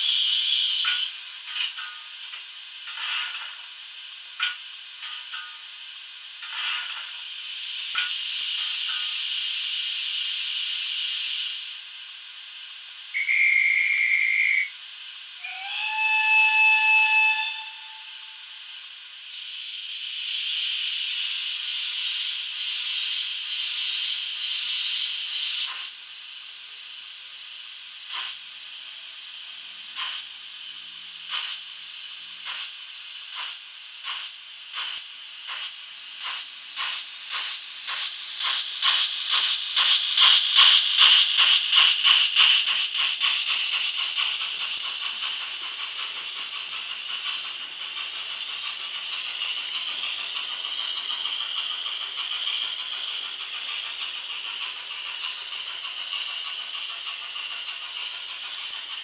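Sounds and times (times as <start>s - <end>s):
steam locomotive exhaust chuffs: 0.0s - 59.0s.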